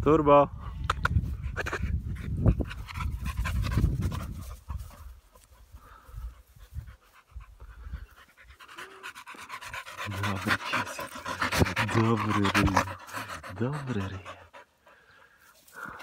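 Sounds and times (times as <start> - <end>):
dog panting: 1.3 - 16.0.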